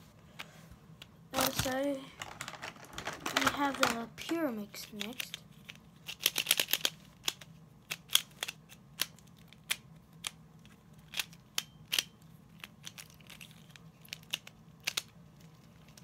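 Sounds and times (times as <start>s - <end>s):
plastic puzzle clicking: 1.4s - 10.4s, 11.0s - 15.1s.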